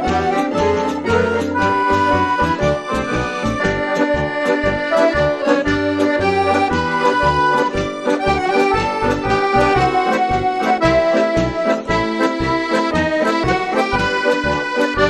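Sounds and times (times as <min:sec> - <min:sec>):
accordion bass notes and chords: 0:00.0 - 0:15.0
accordion melody: 0:00.0 - 0:15.0.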